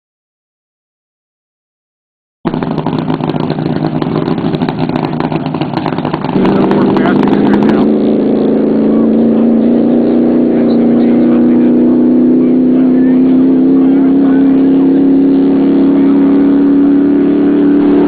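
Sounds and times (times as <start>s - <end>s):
vehicle engine revving up: 2.5s - 18.0s.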